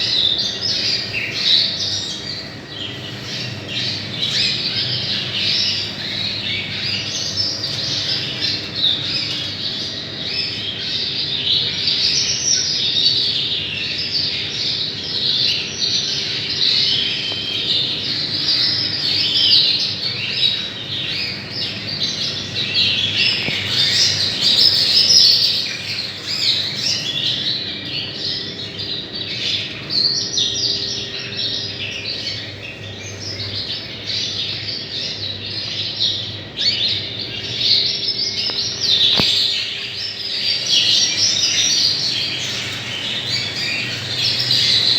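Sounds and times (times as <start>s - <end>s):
canaries chirping and singing: 0.0s - 44.9s.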